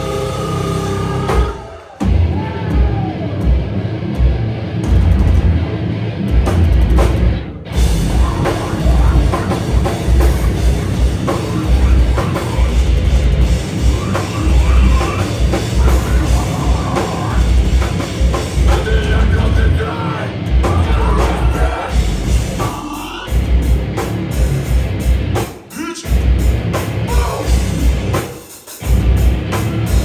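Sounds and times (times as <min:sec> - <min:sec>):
metal band playing live: 0:00.0 - 0:30.0
pounding drums: 0:00.0 - 0:30.0.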